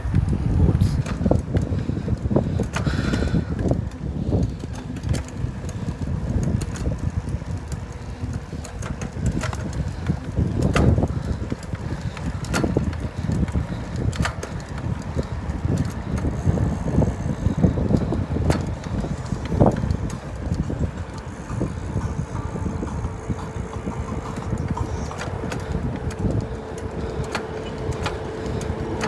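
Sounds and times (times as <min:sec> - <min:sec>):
tyre and road noise: 0:00.0 - 0:29.0
wind buffeting microphone: 0:00.0 - 0:29.0.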